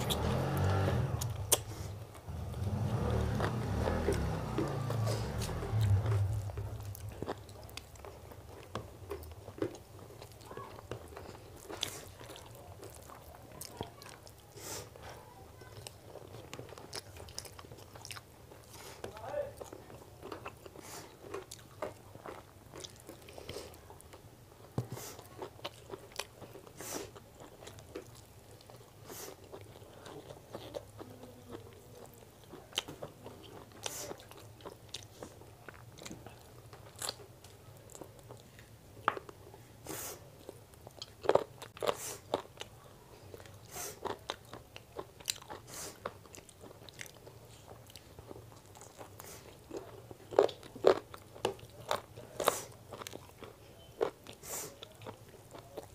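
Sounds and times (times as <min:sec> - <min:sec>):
chewing and lip smacks: 0:00.0 - 0:15.0, 0:15.6 - 0:39.7, 0:40.3 - 0:55.9.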